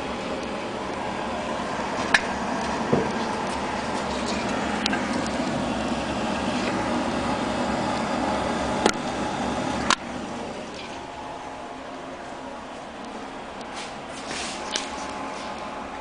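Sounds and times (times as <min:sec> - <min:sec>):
pellet stove running: 0:00.0 - 0:16.0.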